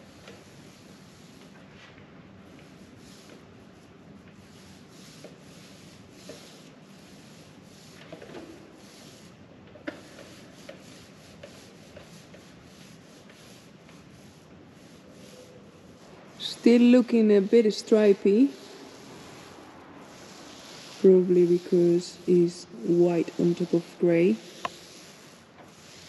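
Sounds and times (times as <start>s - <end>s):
paint roller swishing: 0.0s - 26.0s.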